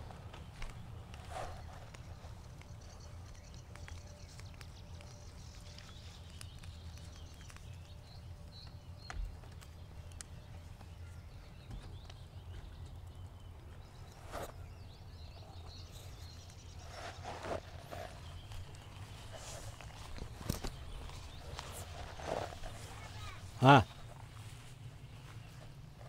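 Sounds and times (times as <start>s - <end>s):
faint bird chirps: 0.0s - 26.0s.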